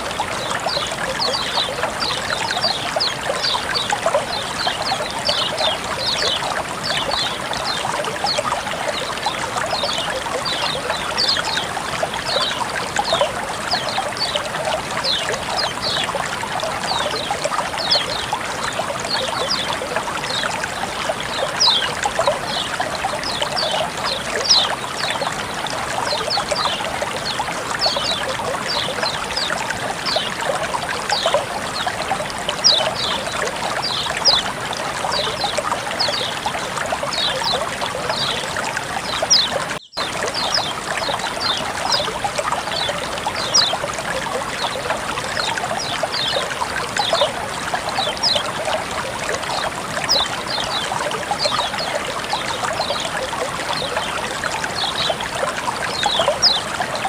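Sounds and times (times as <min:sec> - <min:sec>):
high water plinks: 0:00.0 - 0:57.0
water trickling: 0:00.0 - 0:57.0.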